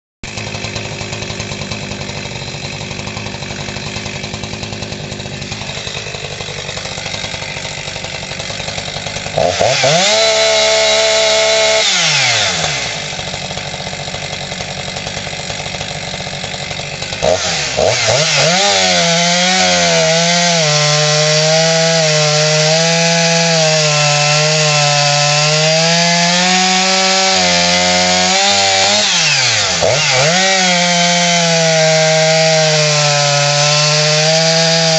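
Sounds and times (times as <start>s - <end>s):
chainsaw cutting wood: 0.2s - 34.9s
chainsaw idling and revving: 0.2s - 34.9s.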